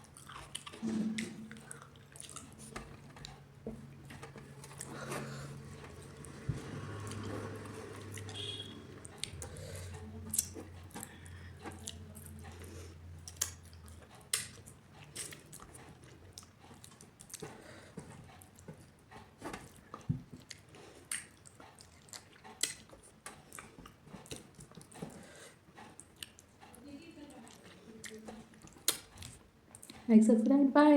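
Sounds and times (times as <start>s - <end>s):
chewing and biting food: 0.0s - 30.1s.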